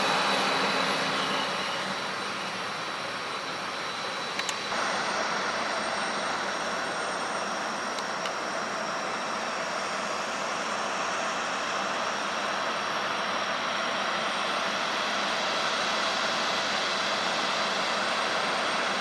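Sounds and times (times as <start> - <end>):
faint high whine: 0.0 - 19.0
jet engines roaring: 0.0 - 19.0.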